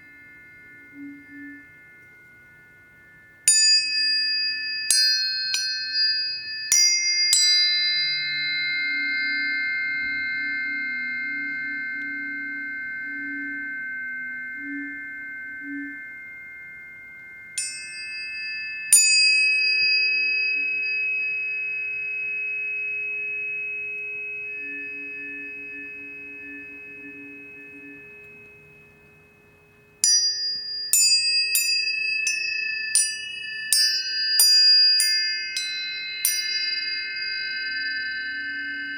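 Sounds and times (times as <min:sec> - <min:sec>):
tuning forks struck and ringing: 0:00.0 - 0:38.9.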